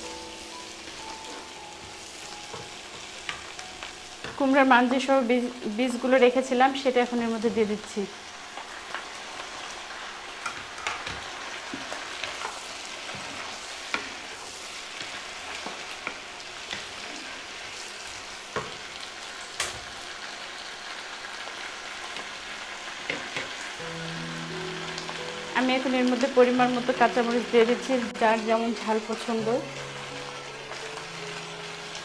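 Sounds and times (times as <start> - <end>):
vegetables sizzling in oil: 0.0 - 32.0.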